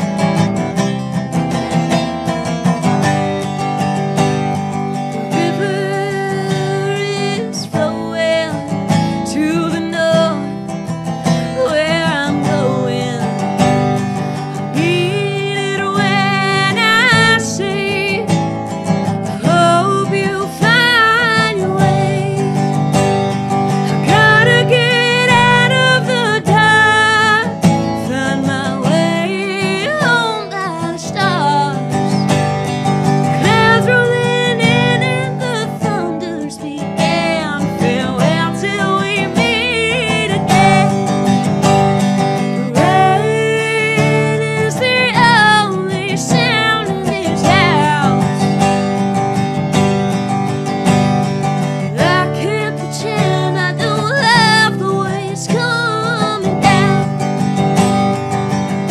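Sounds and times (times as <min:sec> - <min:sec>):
resonator guitar: 0:00.0 - 0:58.9
woman singing: 0:04.9 - 0:49.4, 0:51.5 - 0:57.8.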